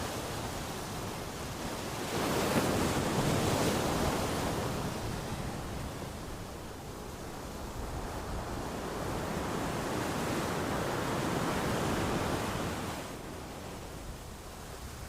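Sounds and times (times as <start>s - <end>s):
ocean waves breaking: 0.0s - 13.9s.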